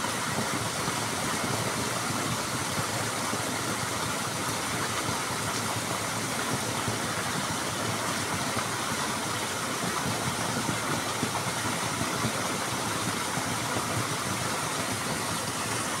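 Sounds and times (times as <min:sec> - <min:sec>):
waterfall splashing into pool: 0:00.0 - 0:16.0.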